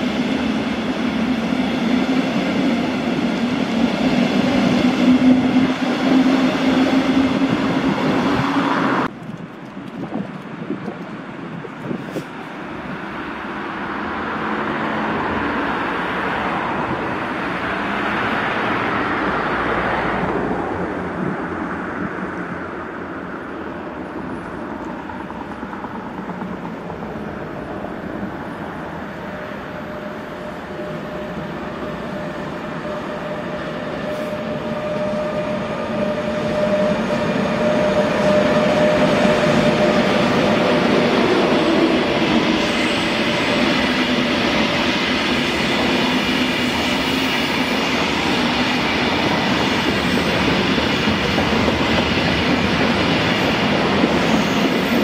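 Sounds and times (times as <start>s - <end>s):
rushing noise: 0.0s - 55.0s
train wheels rumbling on rails: 0.0s - 55.0s.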